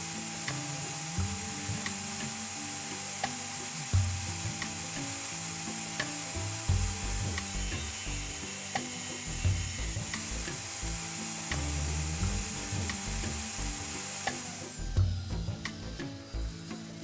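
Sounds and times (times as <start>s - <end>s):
music with bass line: 0.0s - 2.4s, 3.1s - 5.4s, 6.2s - 17.0s.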